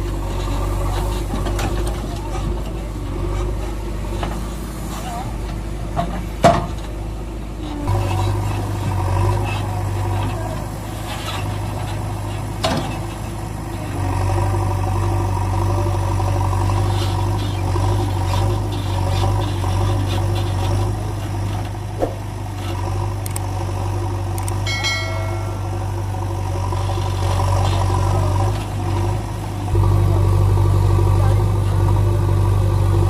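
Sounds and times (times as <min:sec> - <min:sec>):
engine humming: 0:00.0 - 0:33.0.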